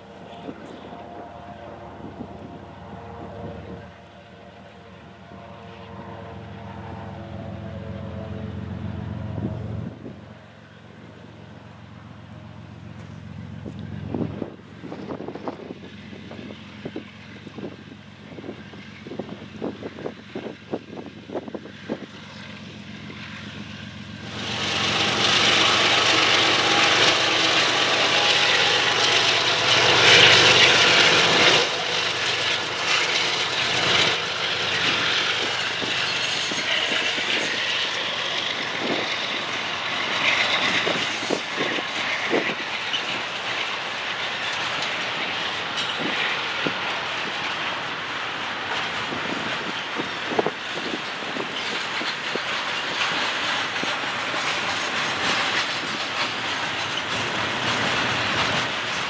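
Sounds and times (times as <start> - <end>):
diesel locomotives passing: 0.0 - 59.0
train wheels clattering over rails: 10.2 - 59.0.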